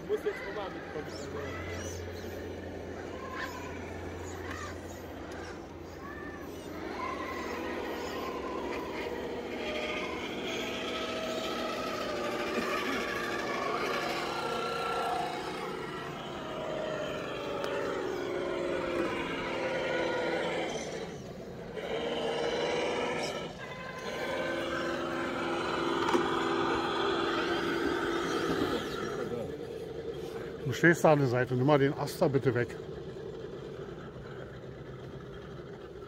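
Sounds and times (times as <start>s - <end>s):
electric motors whining: 0.0s - 36.0s.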